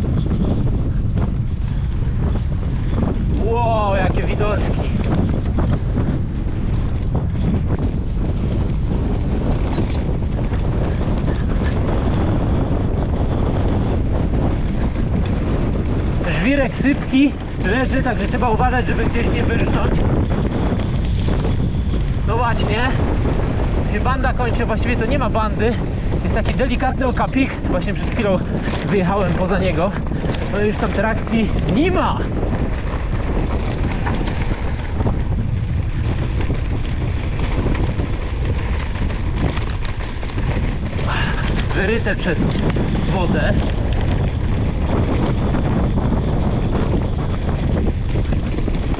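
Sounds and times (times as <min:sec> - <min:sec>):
bike tyres on loose gravel: 0:00.0 - 0:48.9
wind buffeting microphone: 0:00.0 - 0:48.9.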